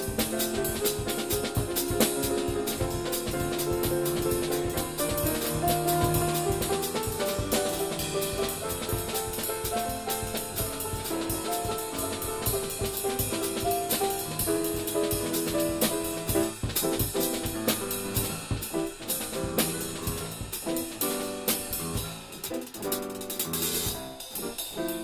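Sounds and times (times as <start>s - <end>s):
drum kit playing: 0.0s - 25.0s
piano chords: 0.0s - 25.0s.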